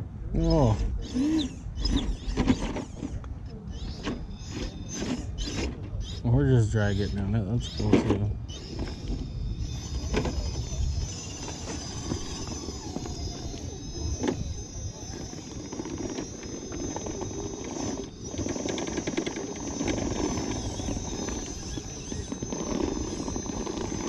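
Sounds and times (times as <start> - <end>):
small electric motor and gears: 0.4 - 24.0.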